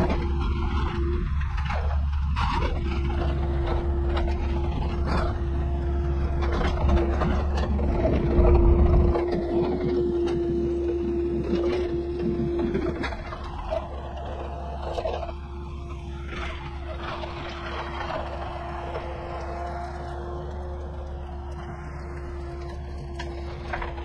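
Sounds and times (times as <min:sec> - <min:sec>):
excavator diesel engine: 0:00.0 - 0:24.0
hydraulic whine: 0:00.0 - 0:24.0.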